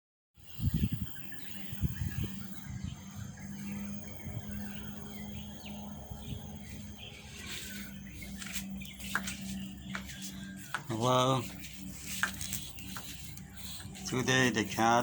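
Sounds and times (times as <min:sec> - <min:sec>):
birds chirping: 0:00.4 - 0:15.0
insects: 0:00.4 - 0:15.0
steady low hum: 0:00.5 - 0:15.0.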